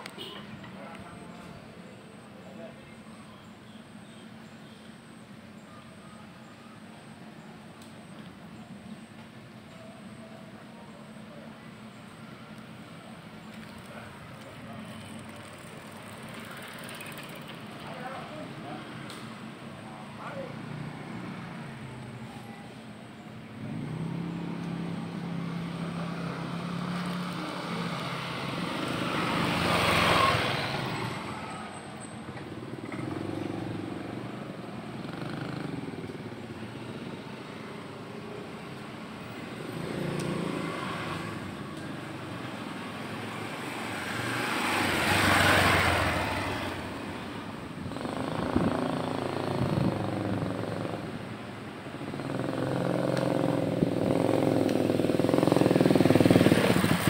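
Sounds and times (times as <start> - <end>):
vehicles passing: 0.0 - 57.0.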